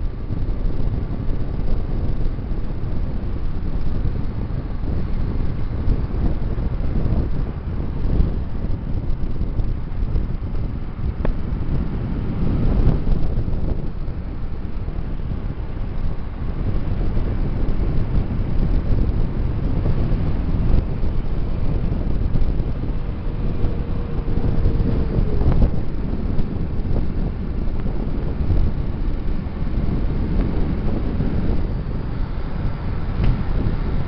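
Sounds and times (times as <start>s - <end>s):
road noise: 0.0s - 34.0s
wind rushing over microphone: 0.0s - 34.0s
motorcycle engine: 0.1s - 34.0s.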